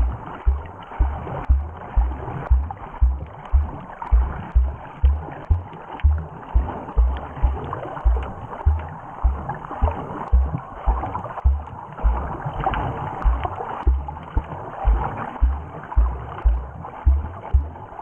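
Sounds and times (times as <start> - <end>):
dull low thumps: 0.0 - 18.0.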